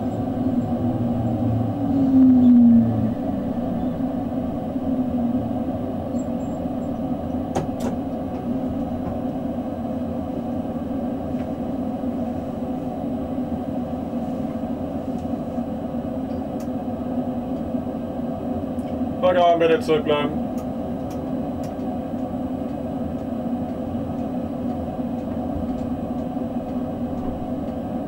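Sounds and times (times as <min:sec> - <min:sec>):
train cab hum and rumble: 0:00.0 - 0:28.0.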